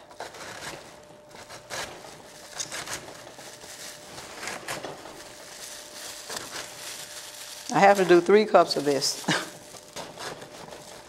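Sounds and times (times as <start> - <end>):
grater rasping: 0.0 - 11.0.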